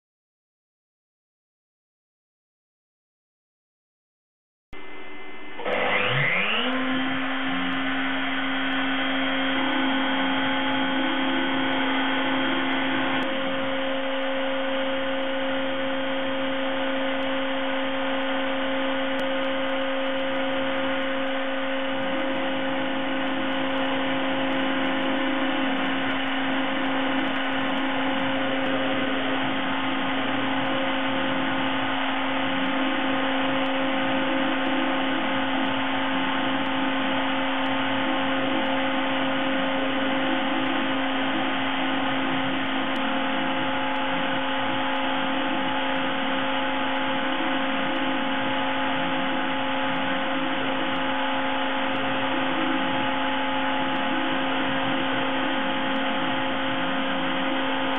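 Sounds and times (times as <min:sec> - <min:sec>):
mill spindle whine: 0:04.8 - 0:57.9.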